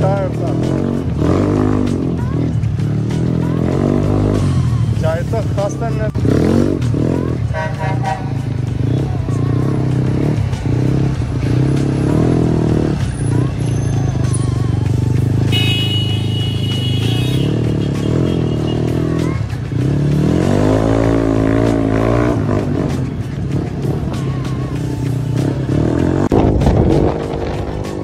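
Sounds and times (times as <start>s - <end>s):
background music: 0.0s - 28.0s.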